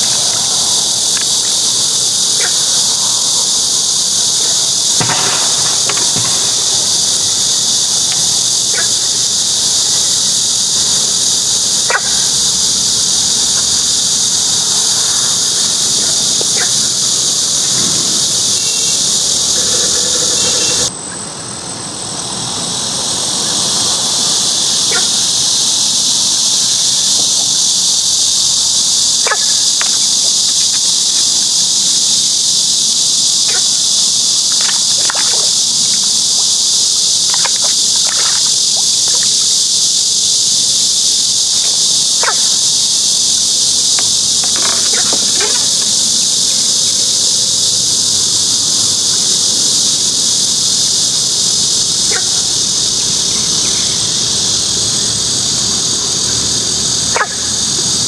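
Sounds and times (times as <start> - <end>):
insects shrilling: 0.0 - 58.0.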